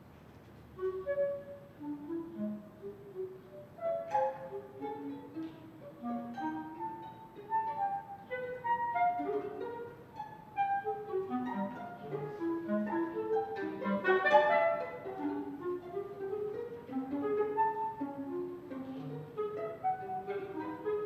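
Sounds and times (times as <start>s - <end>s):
clarinet violin and cello playing: 0.8s - 21.0s.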